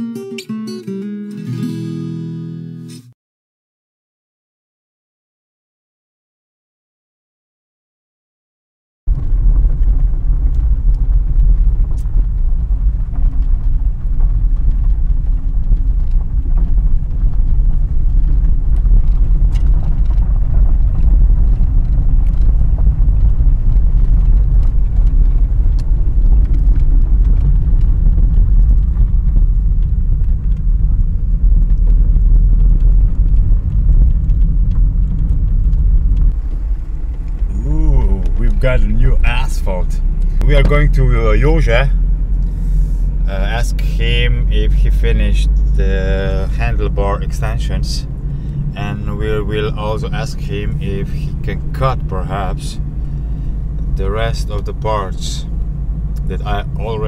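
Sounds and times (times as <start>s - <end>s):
car engine and road noise: 9.1s - 57.0s.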